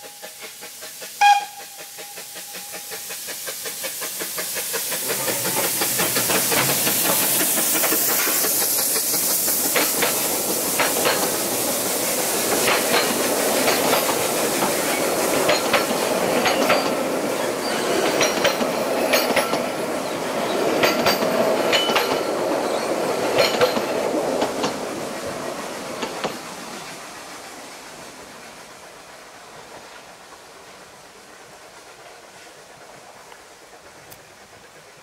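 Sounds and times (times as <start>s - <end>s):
train carriages rumbling past: 0.0s - 35.0s.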